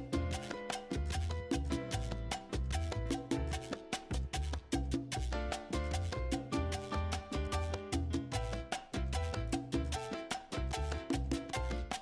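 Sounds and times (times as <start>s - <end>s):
salsa-like background music: 0.0s - 12.0s.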